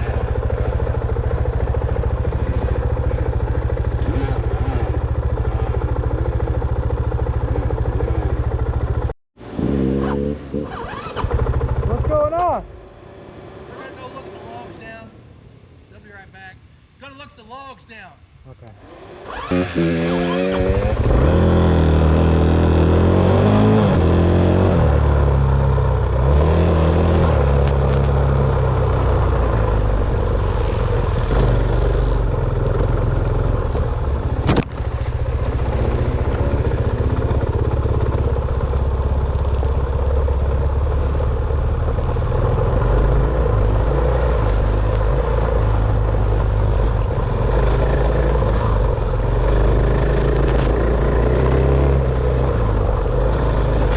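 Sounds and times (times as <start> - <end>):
dirt bike engine revving: 0.0 - 14.6, 18.8 - 53.9.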